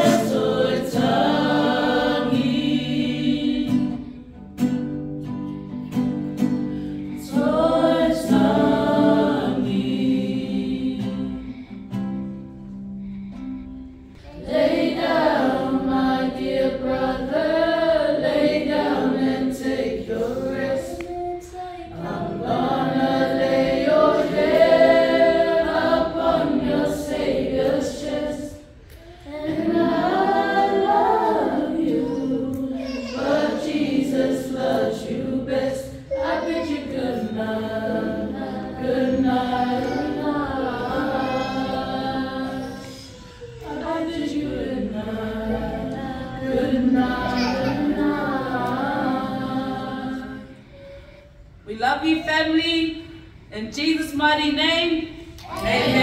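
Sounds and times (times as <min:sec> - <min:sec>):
group singing unaccompanied: 0:00.0 - 0:04.4, 0:06.7 - 0:12.0, 0:14.2 - 0:51.0, 0:55.4 - 0:56.0.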